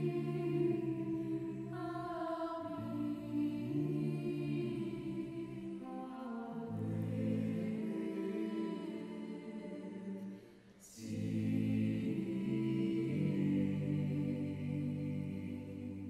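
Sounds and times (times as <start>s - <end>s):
slow music with choir-like voices: 0.0s - 16.0s.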